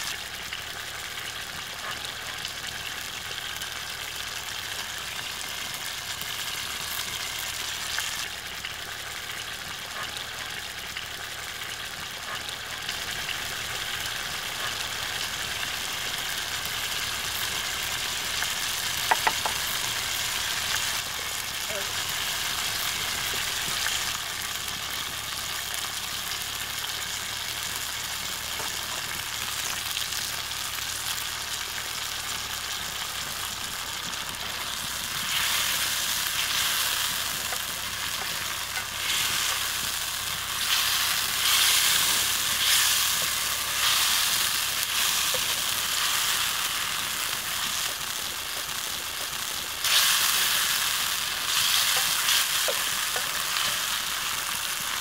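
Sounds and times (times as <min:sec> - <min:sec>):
curry sizzling in a pan: 0:00.0 - 0:55.0.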